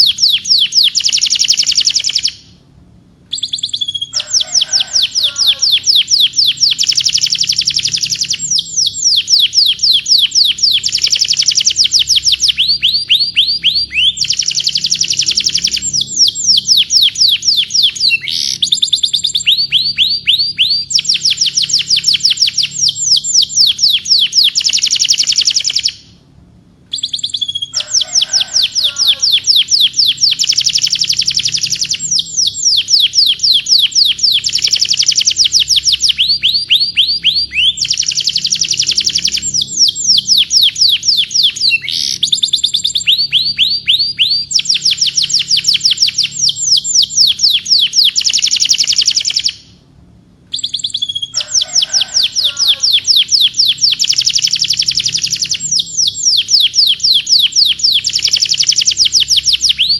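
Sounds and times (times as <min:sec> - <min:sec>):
canary singing: 0:00.0 - 0:26.2, 0:26.9 - 0:49.8, 0:50.5 - 0:59.9.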